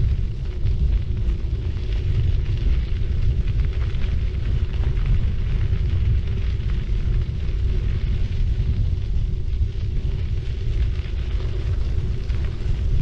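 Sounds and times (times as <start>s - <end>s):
bike tyres rolling on road: 0.0s - 13.0s
wind rumble on microphone: 0.0s - 13.0s.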